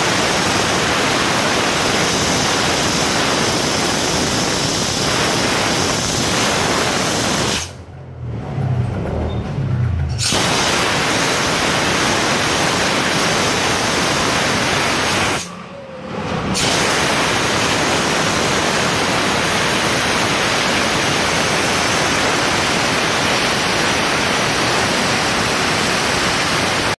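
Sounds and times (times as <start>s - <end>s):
steam cleaner hissing: 0.0s - 7.8s, 10.2s - 15.6s, 16.6s - 27.0s.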